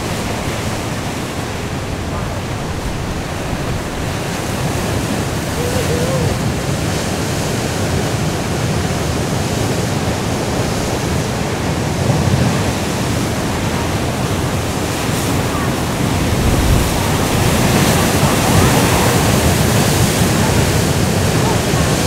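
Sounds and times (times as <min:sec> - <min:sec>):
waves breaking: 0:00.0 - 0:22.0
wind: 0:00.0 - 0:22.0.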